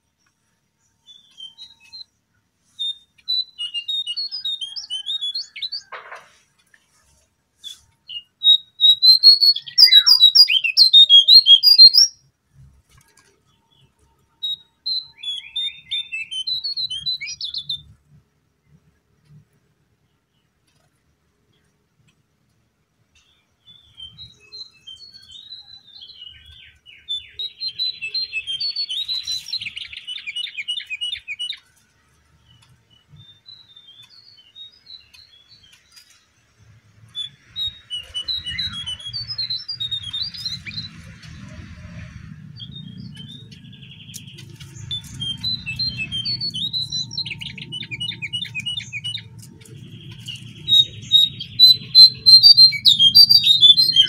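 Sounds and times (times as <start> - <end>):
bird twittering song: 0.0 - 2.2, 2.8 - 6.0, 7.6 - 12.3, 13.5 - 18.0, 23.1 - 36.4, 37.0 - 54.0.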